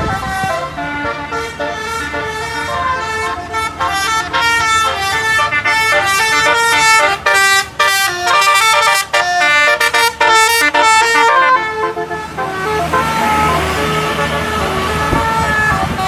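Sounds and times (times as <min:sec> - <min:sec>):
bus multi-tone horn melody: 0:00.0 - 0:16.0.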